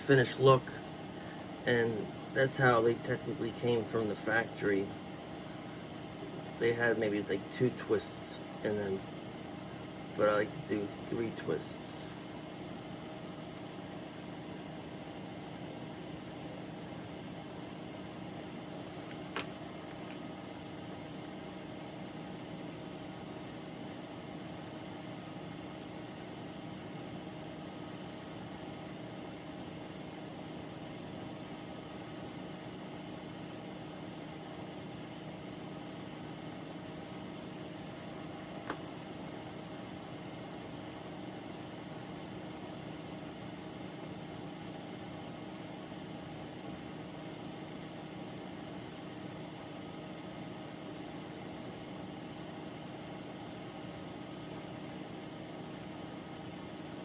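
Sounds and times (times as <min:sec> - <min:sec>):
electrical background hum: 0:00.0 - 0:57.0.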